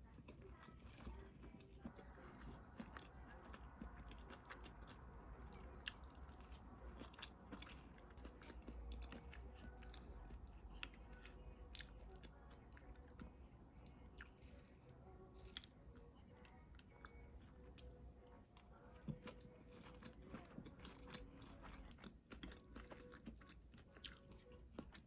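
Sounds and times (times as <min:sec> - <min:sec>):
chewing and crunching: 0:00.0 - 0:25.0
low background hum: 0:00.0 - 0:25.0.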